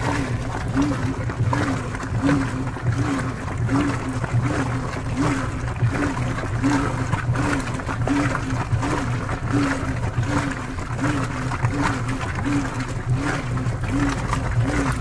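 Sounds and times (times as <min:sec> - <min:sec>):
washing machine motor whine: 0:00.0 - 0:15.0
water swishing in drum: 0:00.0 - 0:15.0.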